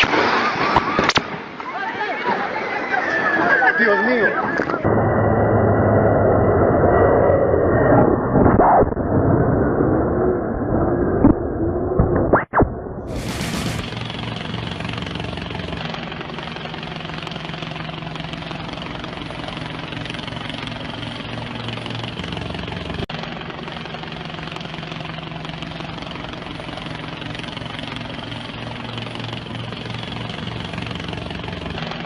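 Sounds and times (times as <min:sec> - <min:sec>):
engine drone: 0:04.6 - 0:12.1, 0:13.0 - 0:32.0.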